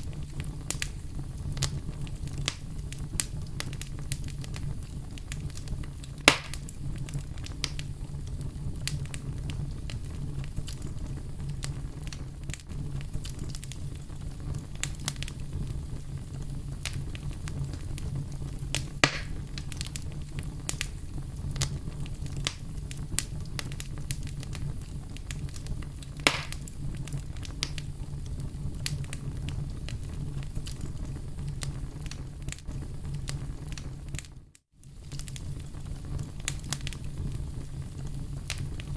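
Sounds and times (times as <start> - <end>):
loud fire snaps: 0.0 - 38.9
wood fire crackling: 0.0 - 38.9.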